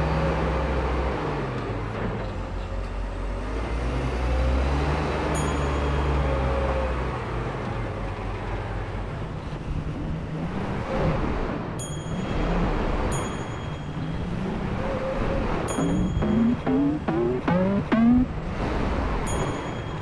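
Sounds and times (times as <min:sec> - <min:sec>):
wheel loader diesel engine: 0:00.0 - 0:10.8, 0:11.5 - 0:20.0.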